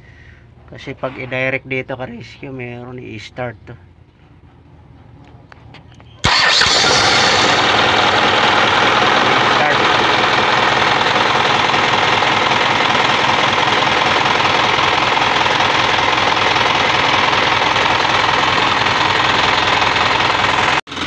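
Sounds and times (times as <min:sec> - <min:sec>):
diesel engine running: 0:03.8 - 0:21.0.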